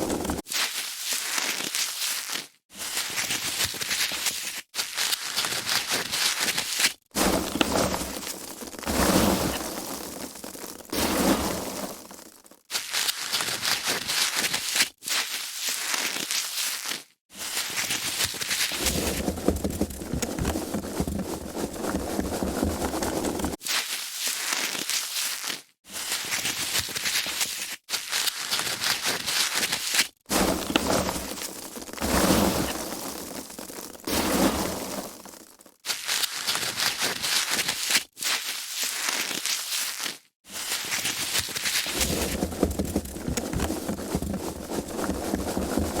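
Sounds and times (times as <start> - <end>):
foam packaging crackling and rustling: 0.0 - 46.0.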